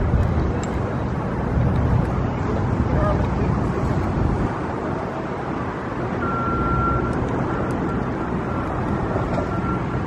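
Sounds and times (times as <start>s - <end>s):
low city rumble: 0.0s - 10.0s.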